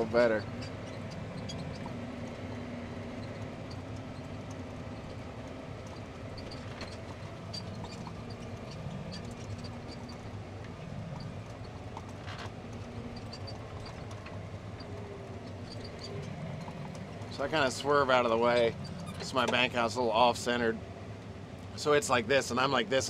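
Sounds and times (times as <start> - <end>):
cab rattles and ticks: 0.0 - 20.0
tractor engine running: 0.0 - 23.0.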